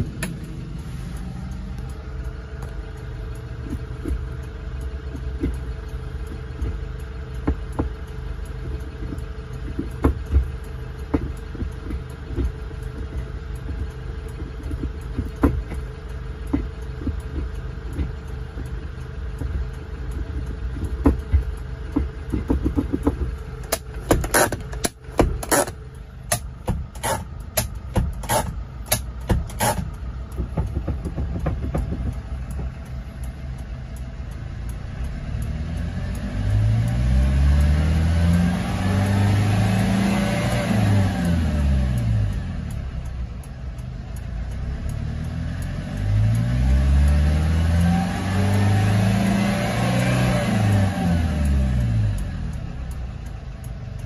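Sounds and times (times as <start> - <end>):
engine revving: 0.0 - 33.6, 34.2 - 54.0
diesel truck engine idling: 0.0 - 54.0
engine sharp clicks: 0.0 - 54.0.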